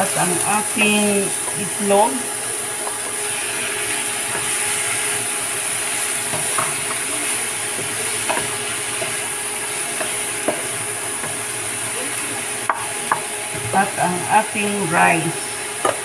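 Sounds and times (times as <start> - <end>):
egg and vegetables sizzling: 0.0 - 16.0.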